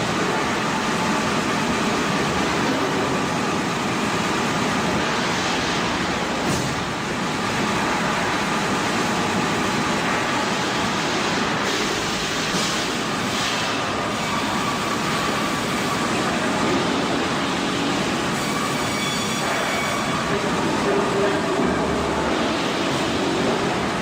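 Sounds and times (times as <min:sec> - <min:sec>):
sawmill machinery running: 0:00.0 - 0:24.0.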